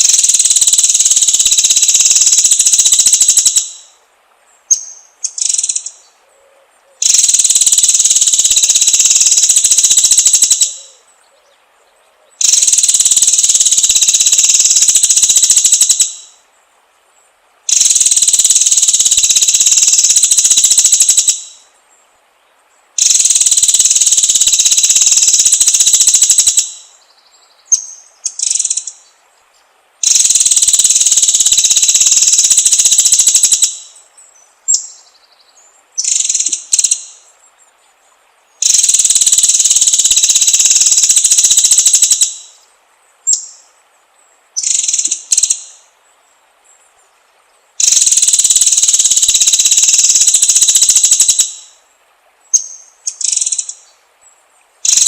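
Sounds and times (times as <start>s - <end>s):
songbird trilling: 0.0s - 4.0s, 4.6s - 16.4s, 17.7s - 21.7s, 23.0s - 29.2s, 30.0s - 37.9s, 38.5s - 43.8s, 44.6s - 45.9s, 47.8s - 51.8s, 52.5s - 54.0s.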